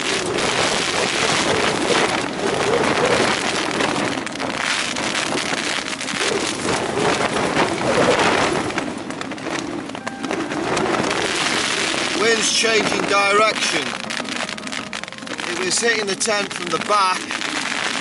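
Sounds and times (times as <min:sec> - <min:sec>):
tent fabric flapping: 0:00.0 - 0:18.0
wind gusting: 0:00.0 - 0:18.0.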